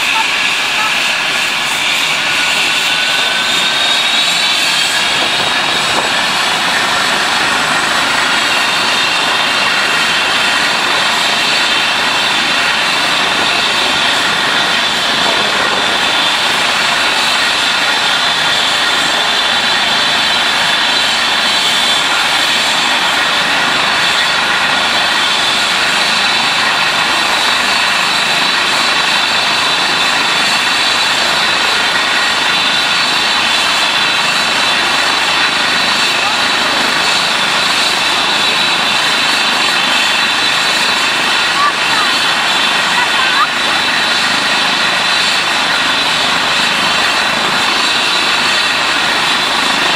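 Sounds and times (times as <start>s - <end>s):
helicopter turbine whine: 0.0s - 49.9s
rotor rushing: 0.0s - 49.9s.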